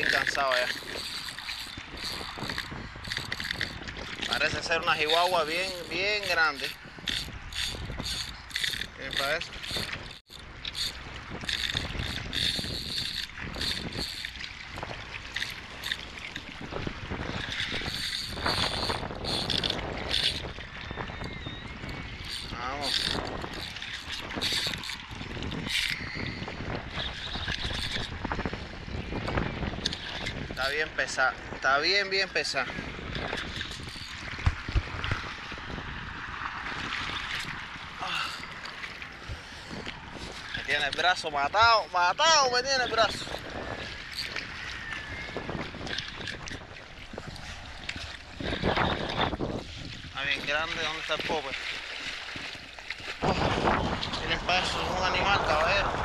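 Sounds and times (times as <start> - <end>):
fishing reel buzzing: 0.0 - 30.9, 31.8 - 35.8, 36.7 - 55.8
sea water lapping at shore: 0.0 - 56.0
wind on microphone: 0.0 - 56.0.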